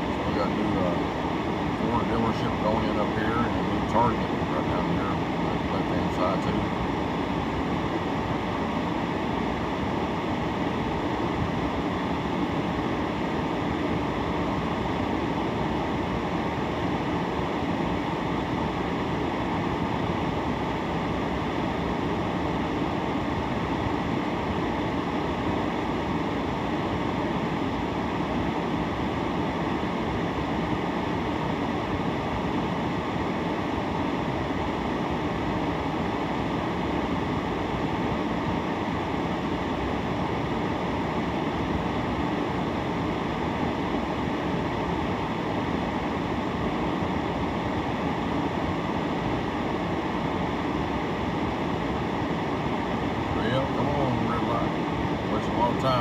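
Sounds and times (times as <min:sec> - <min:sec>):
rushing noise inside car cabin: 0:00.0 - 0:56.0.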